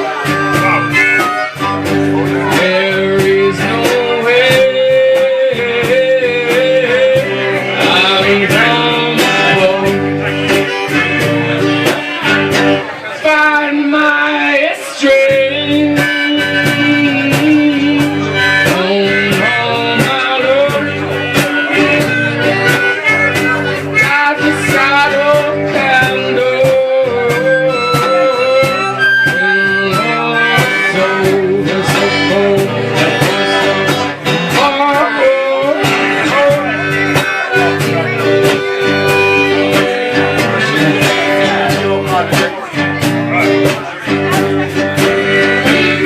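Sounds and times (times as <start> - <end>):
acoustic guitar strumming: 0.0 - 46.0
harmonica melody: 0.0 - 46.0.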